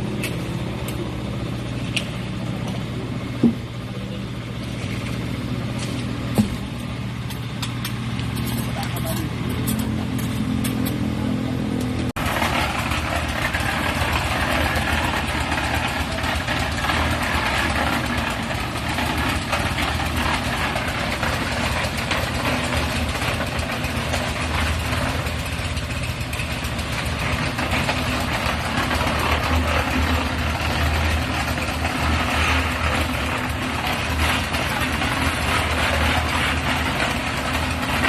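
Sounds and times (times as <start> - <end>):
machinery engine running: 0.0 - 38.0.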